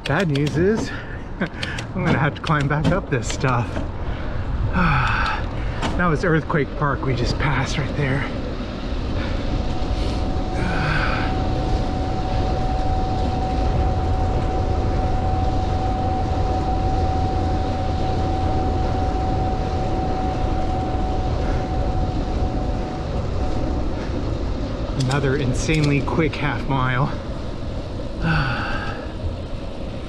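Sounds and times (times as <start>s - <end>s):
thin steady whine: 0.0s - 30.0s
wind rushing over microphone: 0.0s - 30.0s.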